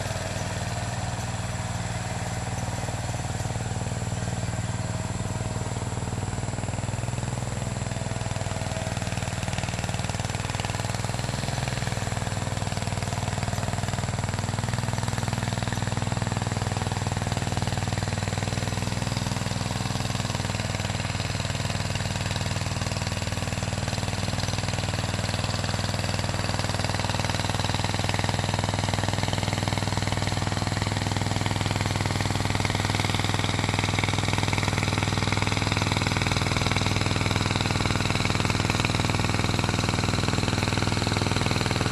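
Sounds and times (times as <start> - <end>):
garden tractor engine running: 0.0 - 41.9.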